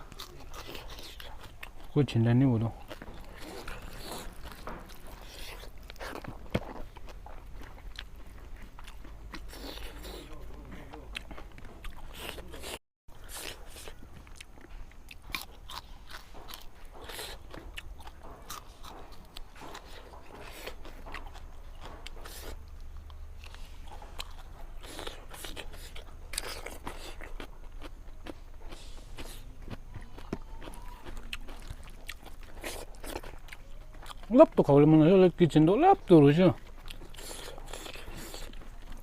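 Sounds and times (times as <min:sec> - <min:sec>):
chewing and mouth smacking: 0:00.0 - 0:39.0.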